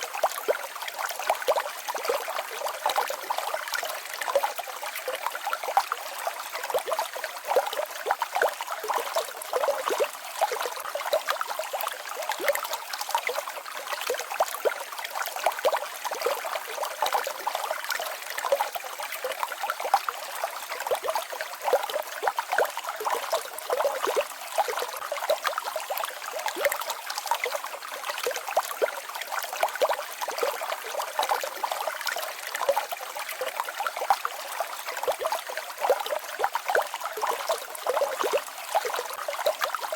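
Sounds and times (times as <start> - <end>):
stream babbling over small waterfall: 0.0 - 39.9.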